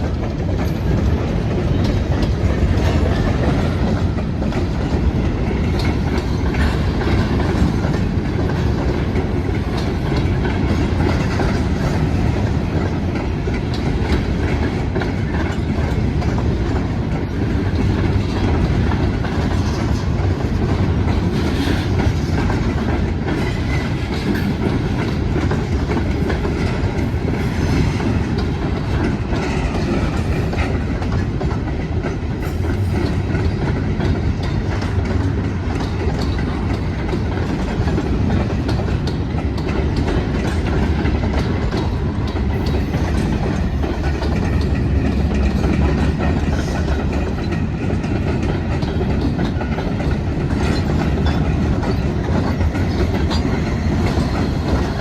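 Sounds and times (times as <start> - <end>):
railroad cars rumbling past: 0.0 - 55.0
wheels clicking over rail joints: 0.0 - 55.0.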